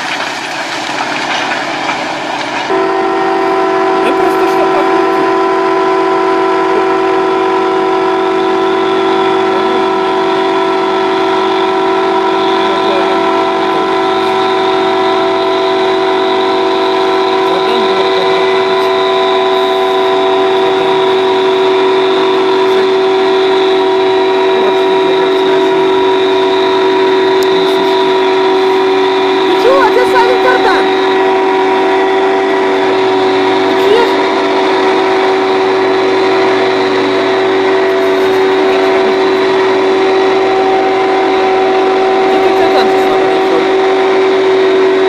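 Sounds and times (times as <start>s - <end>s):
farm machinery droning: 0.0s - 45.0s.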